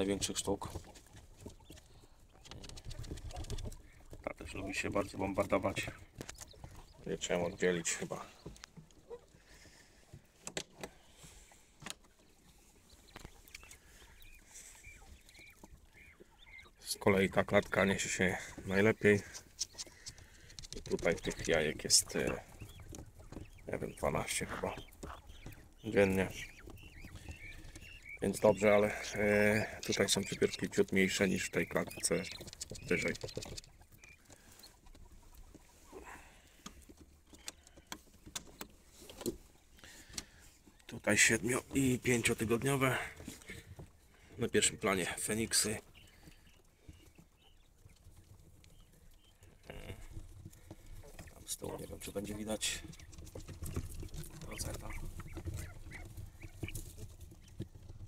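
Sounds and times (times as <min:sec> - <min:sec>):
quail chirping: 0:00.0 - 0:58.0.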